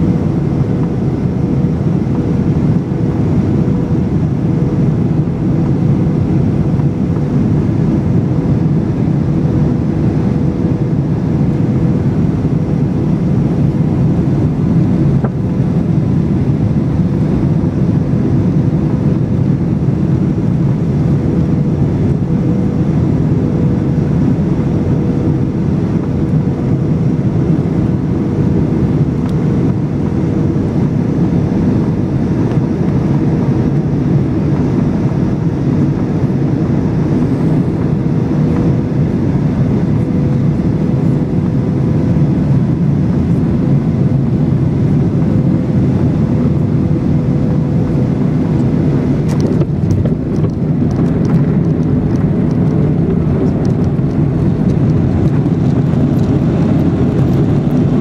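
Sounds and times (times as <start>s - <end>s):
airplane cabin engine rumble: 0.0s - 58.0s
steady cabin hum: 0.0s - 58.0s.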